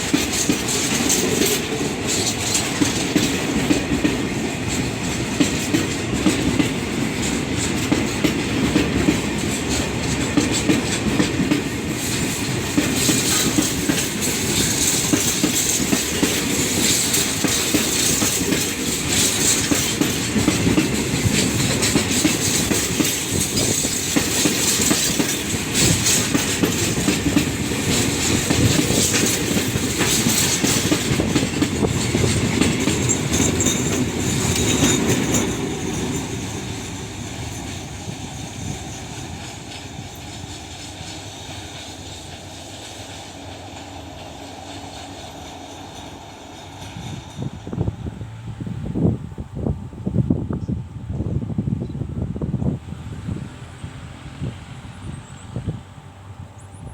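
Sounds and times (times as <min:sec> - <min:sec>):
train wheels clattering over rail joints: 0:00.0 - 0:48.1
hissing rush of passing train: 0:00.0 - 0:56.9.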